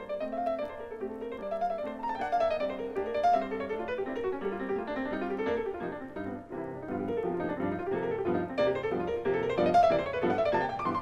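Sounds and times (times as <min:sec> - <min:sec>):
solo jazz piano on vinyl: 0:00.0 - 0:11.0.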